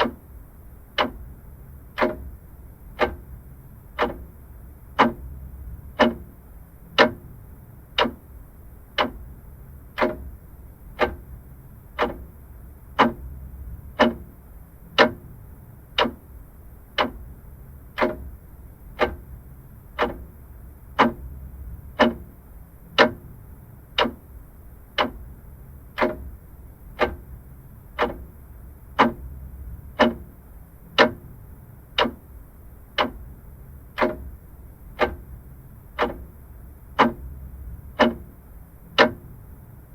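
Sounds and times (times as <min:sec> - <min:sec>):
mechanical clock ticking: 0:00.0 - 0:39.7
faint low hum: 0:00.0 - 0:39.9.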